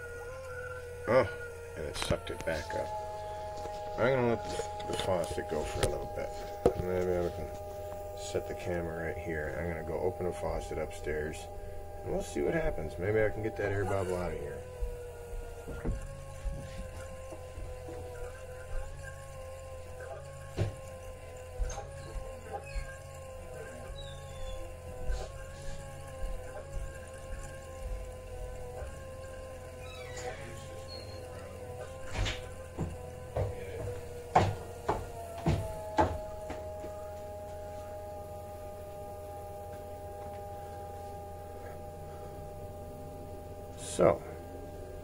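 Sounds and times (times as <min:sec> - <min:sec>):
water pump whining: 0:00.0 - 0:45.0.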